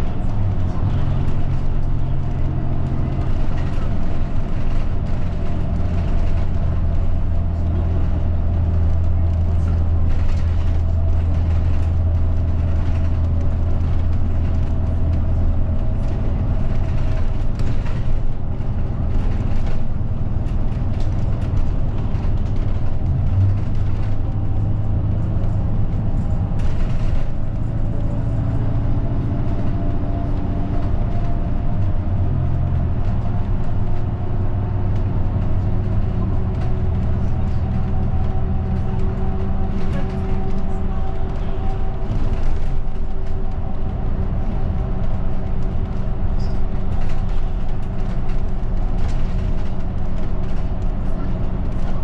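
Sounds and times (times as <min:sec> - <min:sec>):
bus engine droning: 0:00.0 - 0:52.0
light cabin rattles: 0:00.0 - 0:52.0
road noise: 0:00.0 - 0:52.0.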